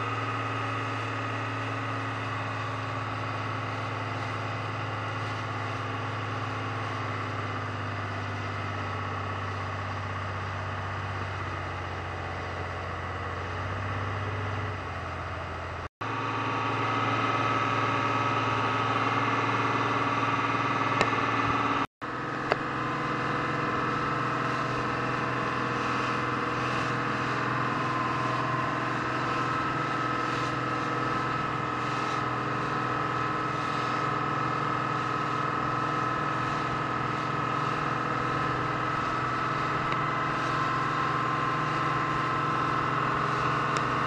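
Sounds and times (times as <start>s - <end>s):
motorboat engine running: 0.0s - 44.0s.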